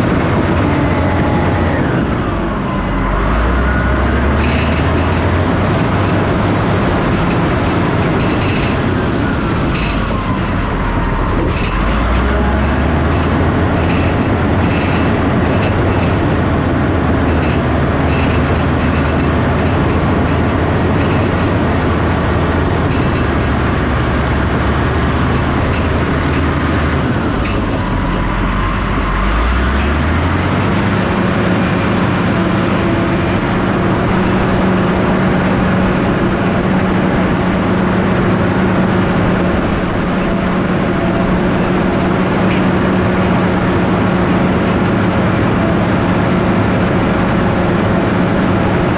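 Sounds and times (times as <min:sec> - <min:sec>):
earthmoving machine engine: 0:00.0 - 0:48.9.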